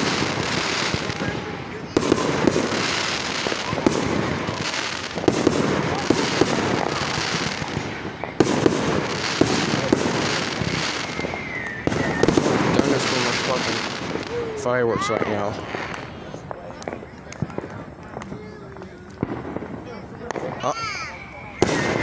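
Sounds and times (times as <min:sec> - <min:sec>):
fireworks bangs: 0:00.0 - 0:22.0
fireworks crackling hiss: 0:00.0 - 0:22.0.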